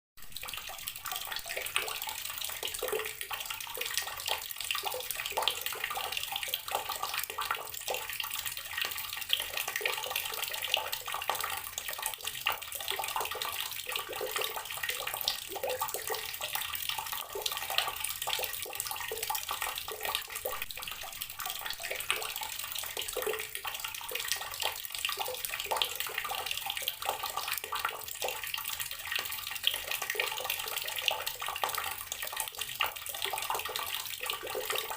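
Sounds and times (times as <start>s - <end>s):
water tap running and splashing: 0.2s - 34.9s.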